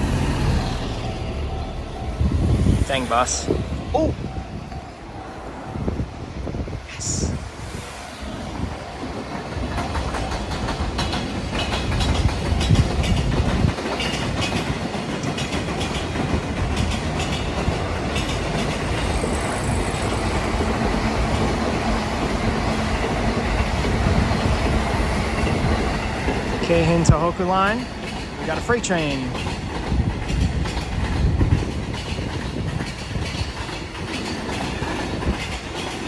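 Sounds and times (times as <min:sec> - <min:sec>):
train rumble with low hum: 0:00.0 - 0:36.0
train wheels clattering over rail joints: 0:00.0 - 0:36.0.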